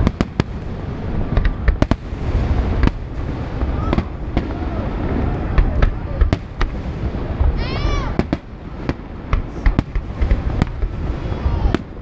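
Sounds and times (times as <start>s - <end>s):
fireworks sharp bangs: 0.0s - 12.0s
low rumble of fireworks: 0.0s - 12.0s.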